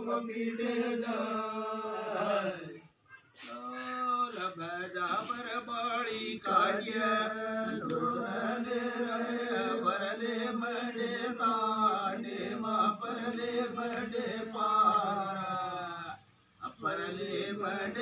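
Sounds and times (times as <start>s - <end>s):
men chanting a prayer: 0.0s - 2.8s, 3.4s - 18.0s.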